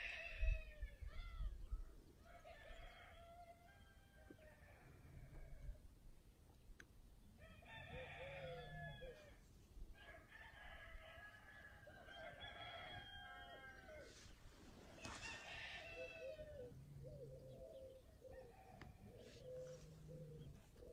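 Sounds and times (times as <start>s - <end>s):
roosters crowing: 0.0s - 1.6s, 2.2s - 5.8s, 7.4s - 20.9s.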